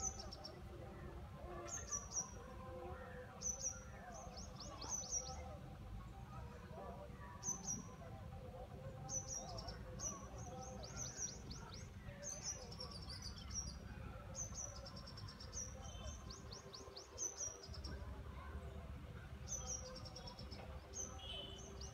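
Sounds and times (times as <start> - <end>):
songbird chirping: 0.0 - 21.9.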